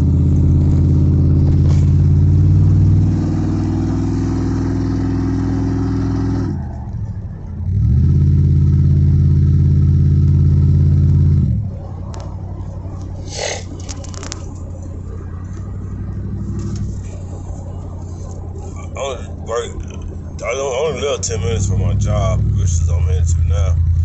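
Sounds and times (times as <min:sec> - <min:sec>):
loud truck engine revving: 0:00.0 - 0:06.8, 0:07.6 - 0:24.0.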